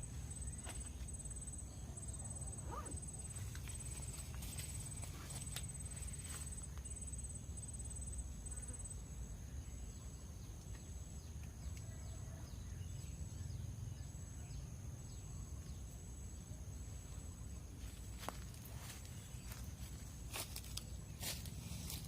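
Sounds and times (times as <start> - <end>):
faint chirps: 0.0 - 22.0
insect trill: 0.0 - 22.0.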